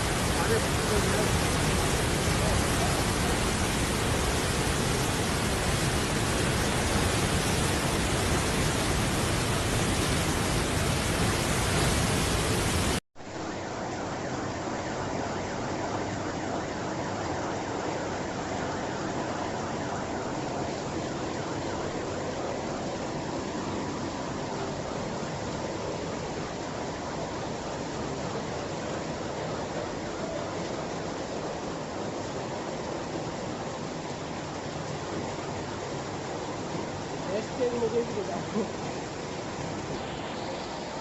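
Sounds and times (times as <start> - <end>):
flowing water: 0.0 - 41.0
rushing floodwater: 0.0 - 41.0.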